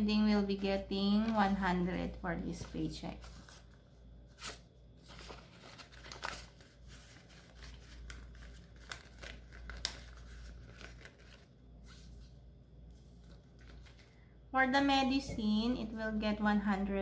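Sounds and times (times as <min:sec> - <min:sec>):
banknotes and plastic rustling: 0:00.4 - 0:14.2.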